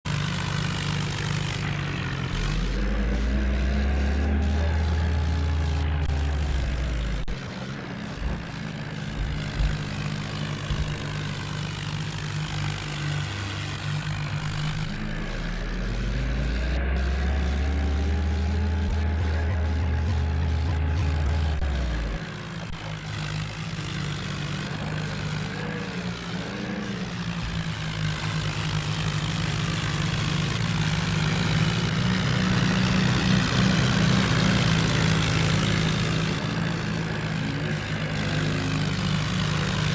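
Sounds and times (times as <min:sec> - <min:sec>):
tractor diesel engine running: 0:00.0 - 0:39.9
deep low drone: 0:01.6 - 0:39.9.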